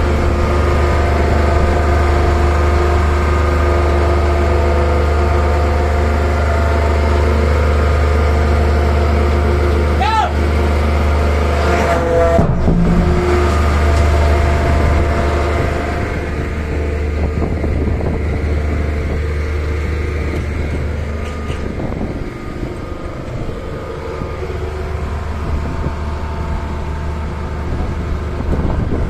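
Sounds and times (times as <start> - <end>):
power unit deep hum: 0.0 - 29.0
rough machinery rumble: 0.0 - 29.0.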